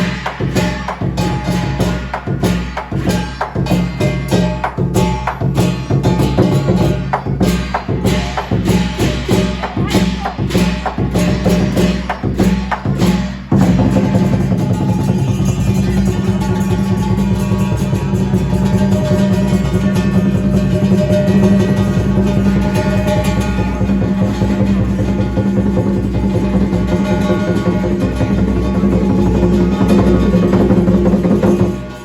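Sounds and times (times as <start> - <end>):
drum and cymbals beating: 0.0 - 32.0.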